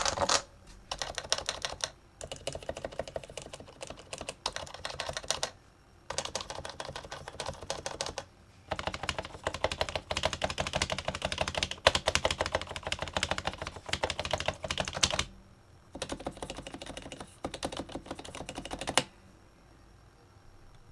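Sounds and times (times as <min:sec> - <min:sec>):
keyboard typing: 0:00.0 - 0:15.3, 0:16.0 - 0:19.1.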